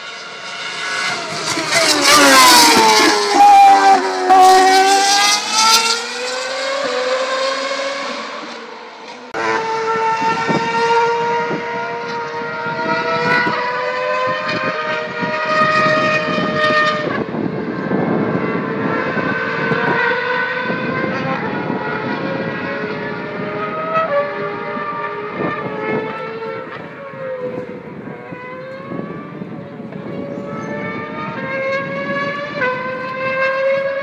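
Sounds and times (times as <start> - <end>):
distant racing car engines: 0.0 - 34.0
racing car engine at high revs: 0.0 - 34.0.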